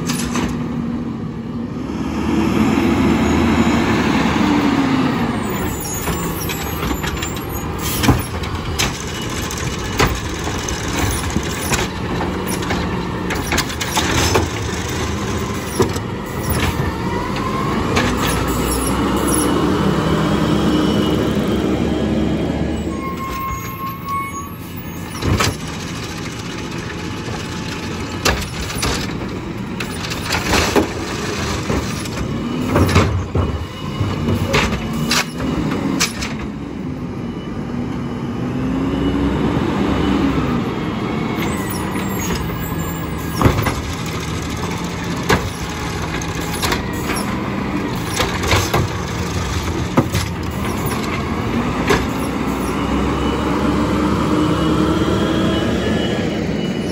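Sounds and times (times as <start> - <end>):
garbage truck engine running: 2.3 - 37.1, 39.3 - 56.9.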